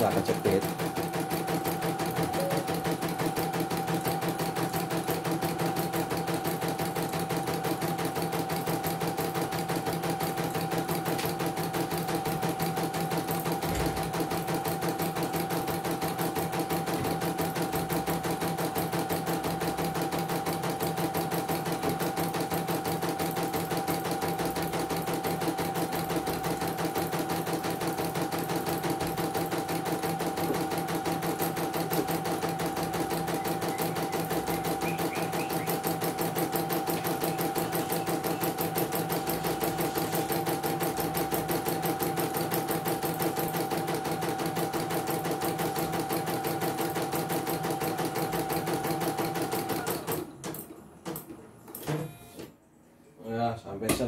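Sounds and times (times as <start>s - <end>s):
embroidery machine stitching: 0.0s - 50.6s.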